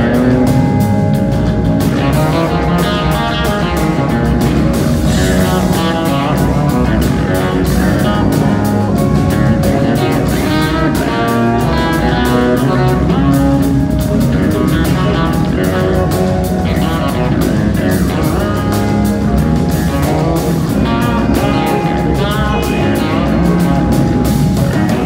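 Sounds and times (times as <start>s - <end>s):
electric bass: 0.0s - 25.0s
electric guitars: 0.0s - 25.0s
steady drum beat: 0.0s - 25.0s.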